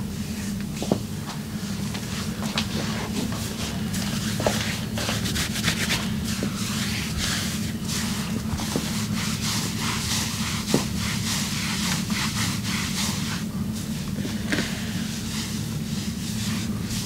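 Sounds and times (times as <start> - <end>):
hands rubbing skin: 2.0 - 17.0.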